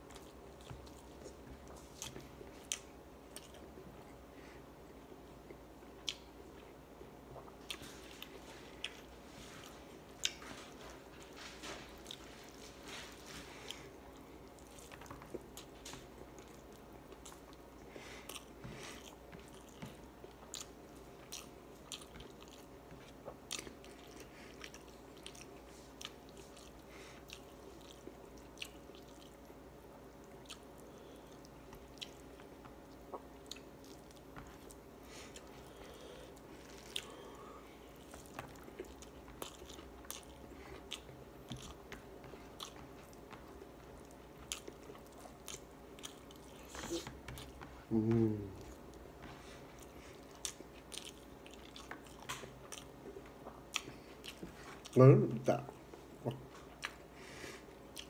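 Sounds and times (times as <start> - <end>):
man chewing with wet smacks: 0.0 - 58.0.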